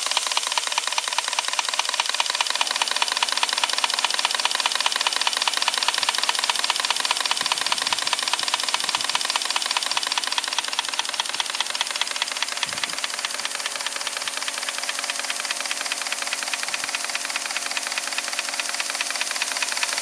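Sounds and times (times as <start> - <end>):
model steam engine clattering: 0.0 - 20.0.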